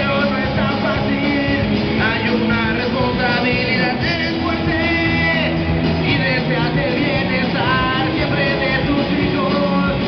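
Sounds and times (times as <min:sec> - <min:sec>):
drum kit: 0:00.0 - 0:10.0
electric guitars: 0:00.0 - 0:10.0
person singing: 0:00.0 - 0:10.0.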